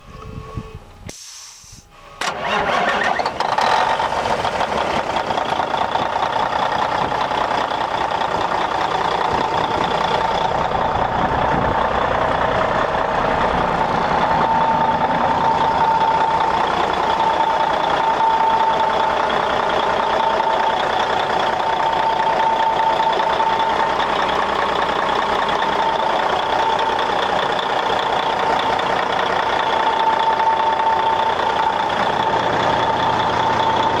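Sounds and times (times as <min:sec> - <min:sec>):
diesel truck engine idling: 0:01.8 - 0:34.0.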